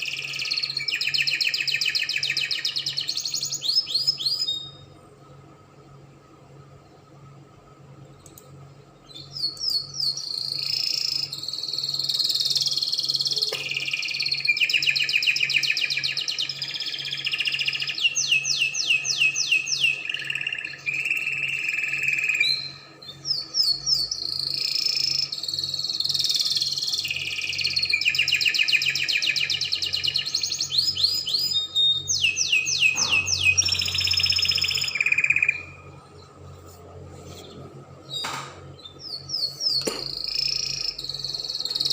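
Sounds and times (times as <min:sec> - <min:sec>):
canary singing trills: 0:00.0 - 0:04.9, 0:09.0 - 0:36.5, 0:37.4 - 0:41.9.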